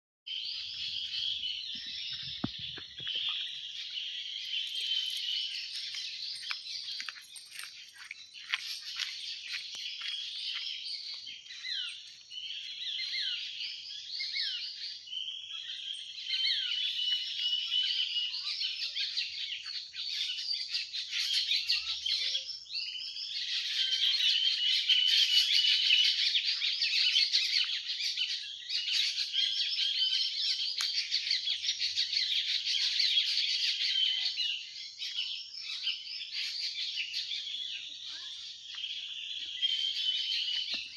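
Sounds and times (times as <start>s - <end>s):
small birds chirping: 0.3s - 40.9s.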